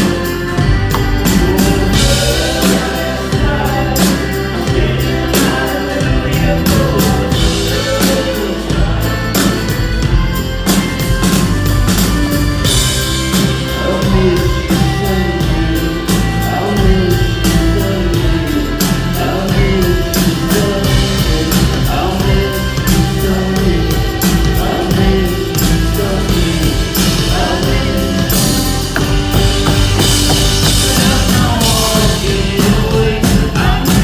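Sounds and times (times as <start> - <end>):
folk rock band playing live: 0.0 - 34.0
person singing: 0.0 - 34.0.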